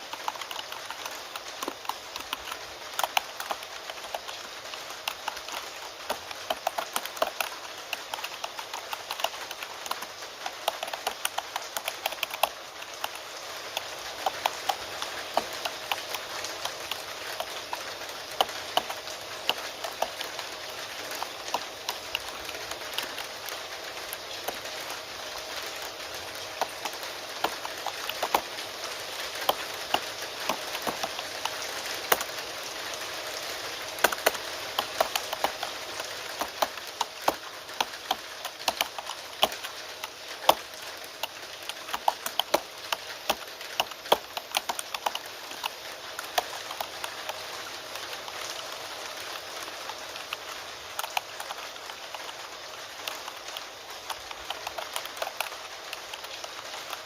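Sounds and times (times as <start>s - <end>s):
keyboard typing: 0.0s - 57.0s
rain falling: 0.0s - 57.0s.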